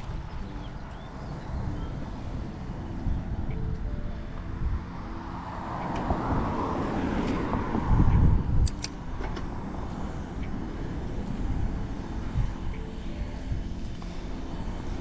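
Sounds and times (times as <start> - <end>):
car passing: 0.0 - 15.0
steady low rumble: 0.0 - 15.0.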